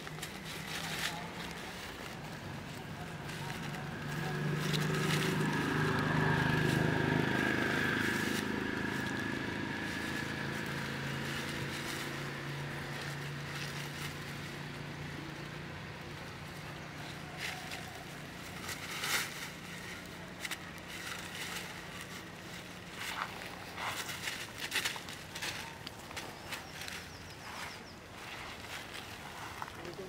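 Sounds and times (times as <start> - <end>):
faint crackles: 0.0 - 30.0
motor engine humming: 0.0 - 30.0.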